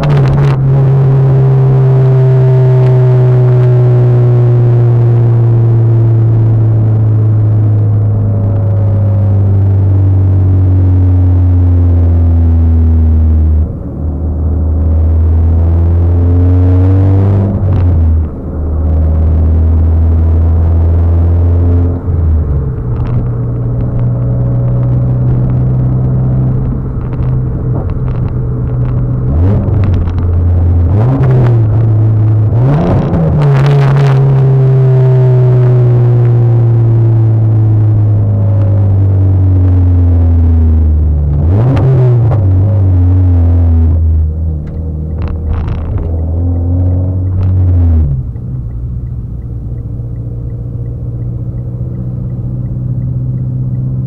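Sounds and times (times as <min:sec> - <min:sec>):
car engine droning inside cabin: 0:00.0 - 0:54.0.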